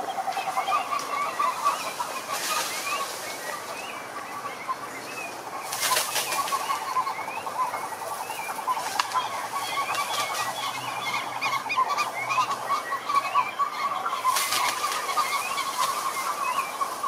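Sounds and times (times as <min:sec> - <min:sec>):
toads and frogs trilling: 0:00.0 - 0:17.0.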